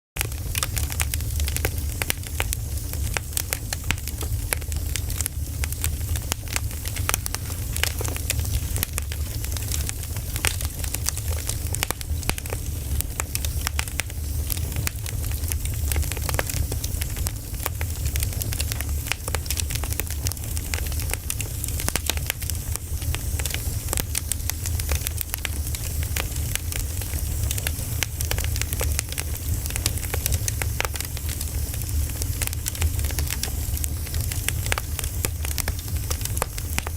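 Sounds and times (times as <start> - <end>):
logs crackling and popping: 0.2 - 36.9
low fire rumble: 0.2 - 36.9.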